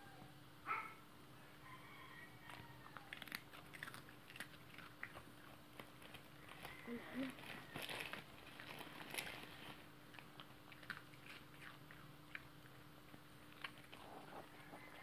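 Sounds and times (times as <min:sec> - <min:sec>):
dog crunching a biscuit: 0:02.4 - 0:15.0.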